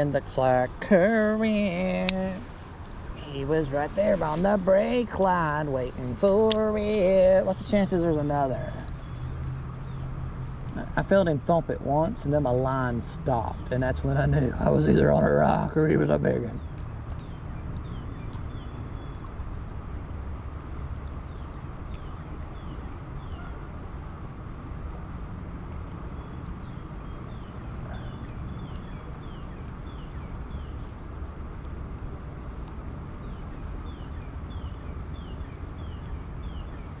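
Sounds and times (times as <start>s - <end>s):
creek water flowing: 0.0s - 36.1s
birds chirping: 0.0s - 37.0s.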